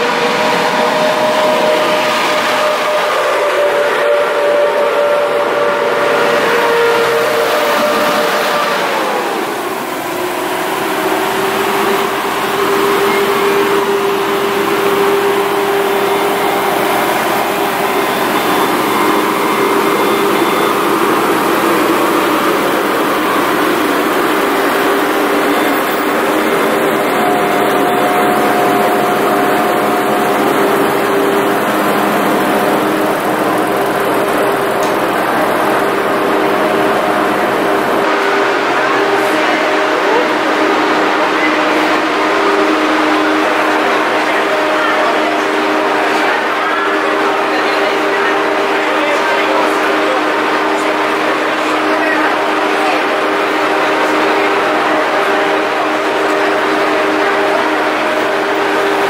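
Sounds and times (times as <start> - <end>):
diesel railcar engine: 0.0 - 59.0.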